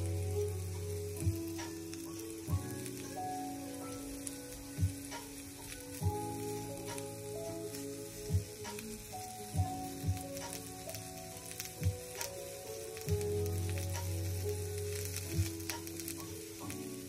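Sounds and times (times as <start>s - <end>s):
food sizzling in frying pan: 0.0s - 17.0s.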